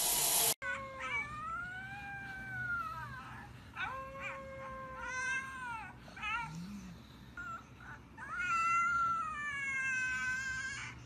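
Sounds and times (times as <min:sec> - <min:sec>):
dog whining: 0:00.6 - 0:10.4.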